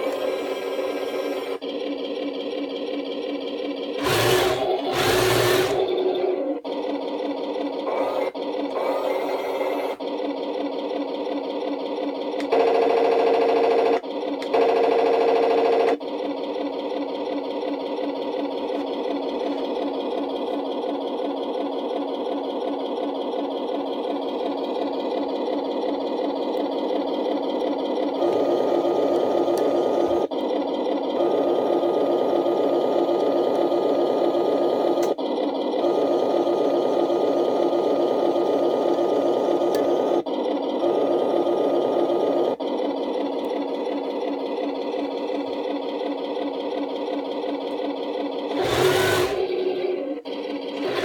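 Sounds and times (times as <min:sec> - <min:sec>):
simulated tank engine buzzing: 0:00.0 - 0:51.0.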